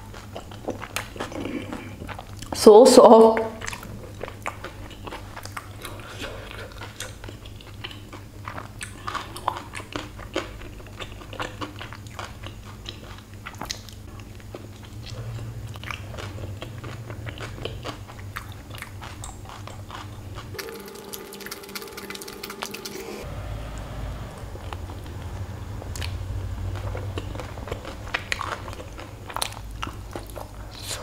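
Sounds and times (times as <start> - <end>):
person chewing food: 0.0 - 2.6, 3.6 - 23.3, 24.6 - 31.0
steady low hum: 0.0 - 31.0.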